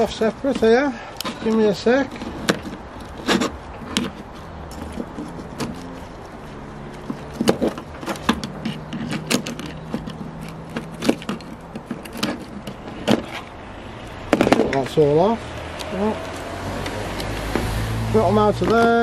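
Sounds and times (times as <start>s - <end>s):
snips cutting wires: 0.0s - 6.2s, 6.9s - 15.0s, 15.6s - 19.0s.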